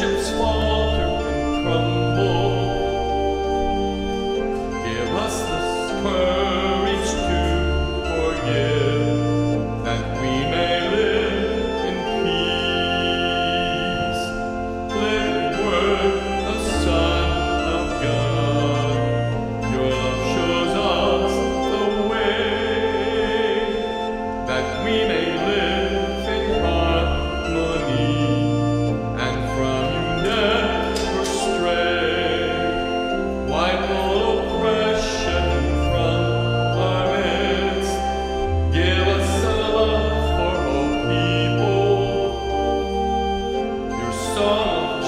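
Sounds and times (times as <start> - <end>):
church organ: 0.0 - 45.0
people singing a hymn: 0.0 - 45.0.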